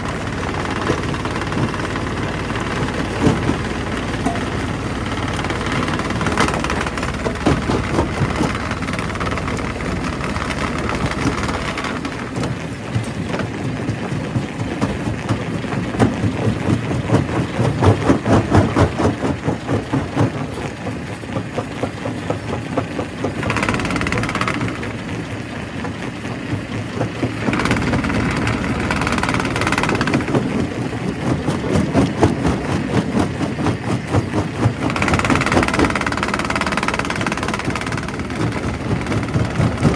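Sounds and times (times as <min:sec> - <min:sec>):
engine drone: 0:00.0 - 0:39.9
rock crusher clattering: 0:00.0 - 0:39.9.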